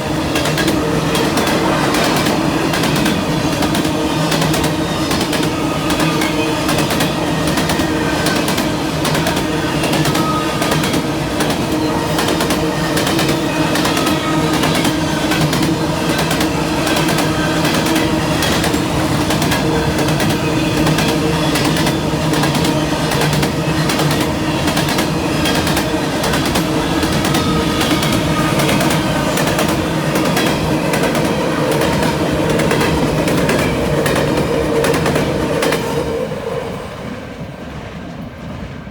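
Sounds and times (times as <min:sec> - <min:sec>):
train wheels clicking over rail joints: 0:00.1 - 0:36.1.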